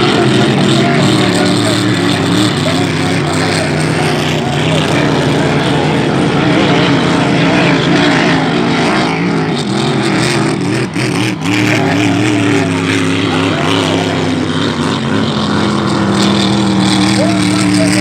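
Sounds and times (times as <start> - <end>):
racing boat engine: 0.0 - 18.0.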